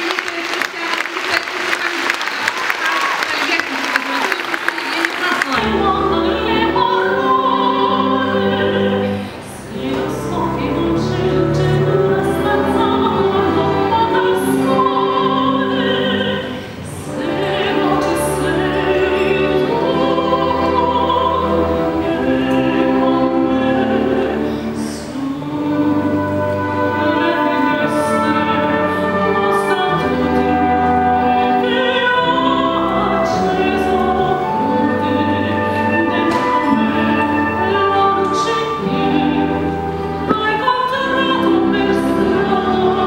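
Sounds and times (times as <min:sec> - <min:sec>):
symphony orchestra: 0:00.0 - 0:43.0
soprano singing operatically: 0:04.2 - 0:43.0.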